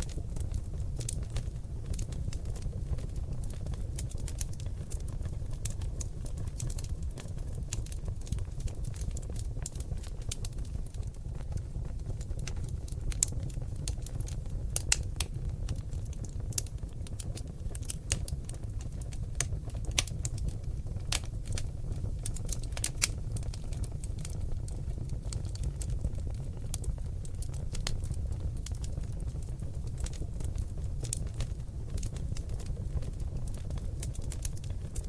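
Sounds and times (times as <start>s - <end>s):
low rumble of flames: 0.0s - 35.0s
logs crackling and snapping: 0.1s - 10.6s, 12.5s - 35.0s.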